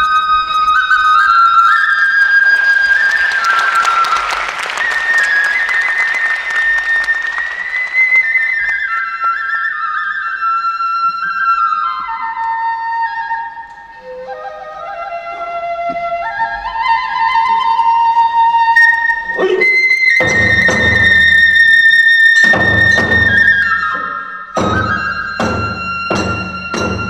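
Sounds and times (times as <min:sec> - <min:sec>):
bamboo flute melody: 0:00.0 - 0:27.0.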